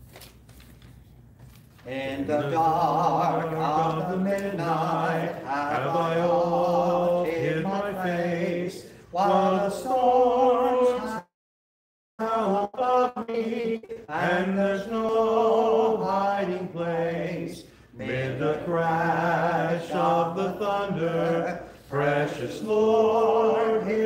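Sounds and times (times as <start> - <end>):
man singing a hymn: 1.8 - 11.3, 12.2 - 24.0.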